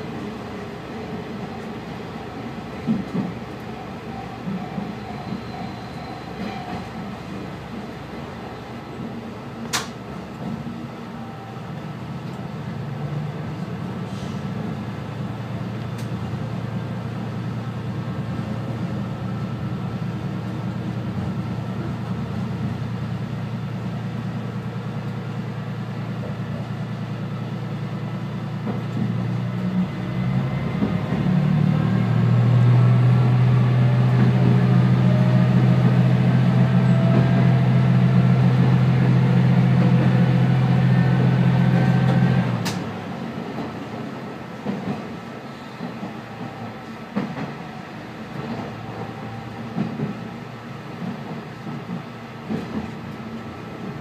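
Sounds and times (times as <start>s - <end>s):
diesel railcar engine hum: 0.0s - 54.0s.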